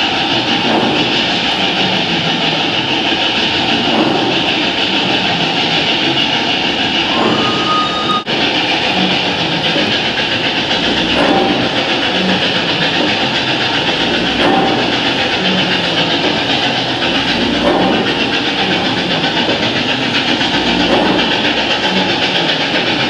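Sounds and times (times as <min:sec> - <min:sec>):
rail noise: 0:00.0 - 0:23.0
steam hissing: 0:00.0 - 0:23.0.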